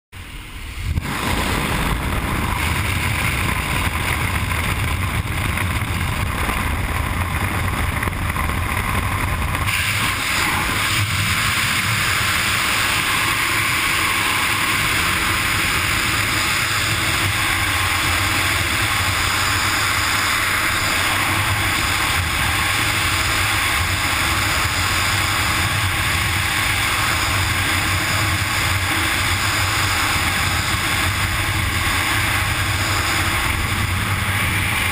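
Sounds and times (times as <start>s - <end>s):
wind rushing over microphone: 0.2s - 34.9s.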